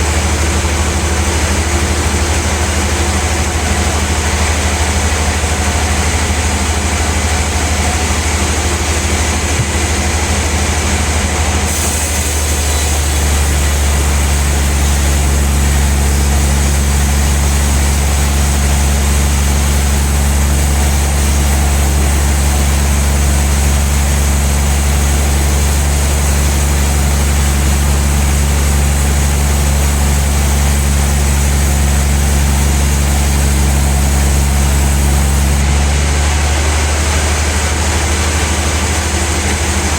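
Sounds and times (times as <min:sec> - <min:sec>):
band saw humming: 0:00.0 - 0:39.9.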